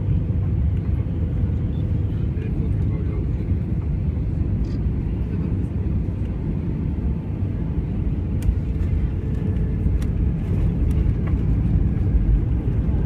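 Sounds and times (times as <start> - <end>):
low rumble of engines and wheels: 0.0 - 13.0.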